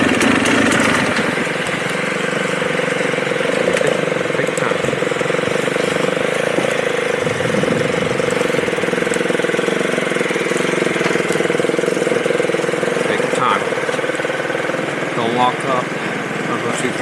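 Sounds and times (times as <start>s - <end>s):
dirt bike engine idling: 0.0s - 17.0s.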